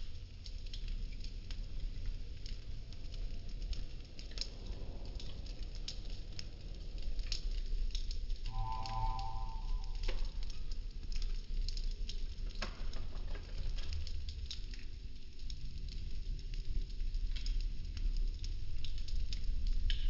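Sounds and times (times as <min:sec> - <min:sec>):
burning wooden sticks crackling: 0:00.0 - 0:20.0
low steady fire rumble: 0:00.0 - 0:20.0.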